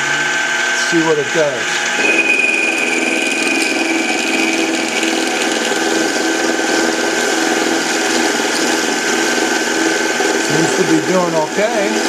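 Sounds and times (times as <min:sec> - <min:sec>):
lathe motor whining: 0:00.0 - 0:12.0
milling cutter cutting metal: 0:01.0 - 0:12.0.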